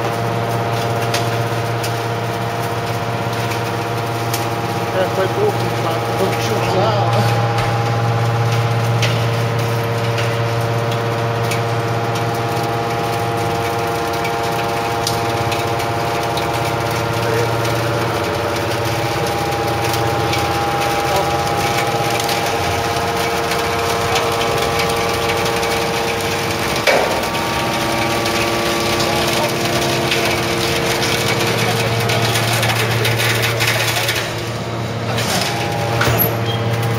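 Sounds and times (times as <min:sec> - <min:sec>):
hydraulic motor hum: 0:00.0 - 0:36.9.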